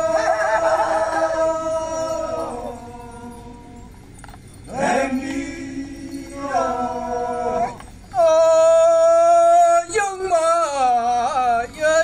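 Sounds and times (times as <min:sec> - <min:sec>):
voices chanting long notes: 0:00.0 - 0:09.9.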